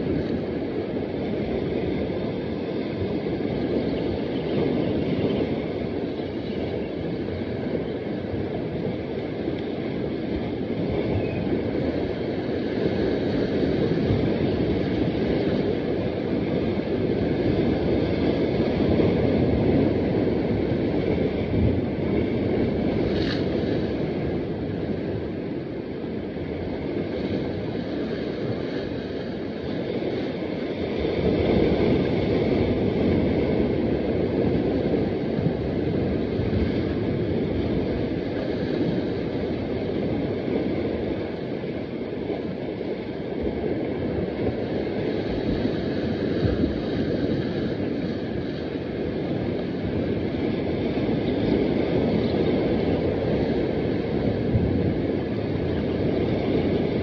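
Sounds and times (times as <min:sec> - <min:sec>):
surf washing against rocks: 0:00.0 - 0:57.0
wind buffeting microphone: 0:00.0 - 0:57.0.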